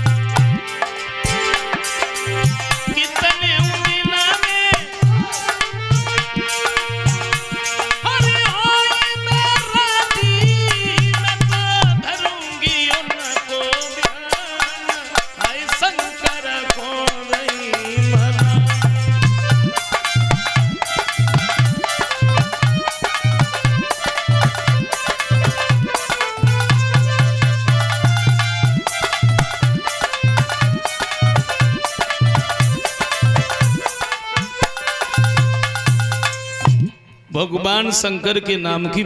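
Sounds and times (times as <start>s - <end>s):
hand drum beat: 0.0s - 37.0s.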